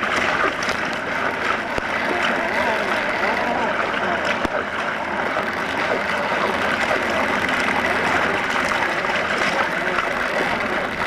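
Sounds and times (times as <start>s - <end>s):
water rushing against kayak hull: 0.0s - 11.0s.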